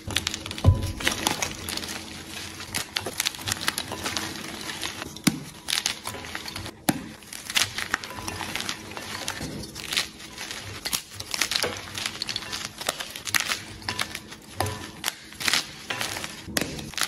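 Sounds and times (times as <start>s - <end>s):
chalk crumbling and crackling: 0.0s - 17.0s.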